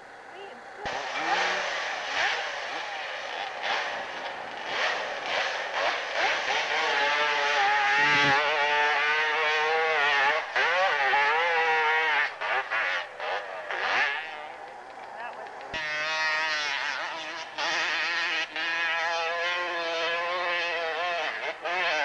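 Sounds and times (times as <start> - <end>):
motorcycle engine high revs: 0.0 - 22.0.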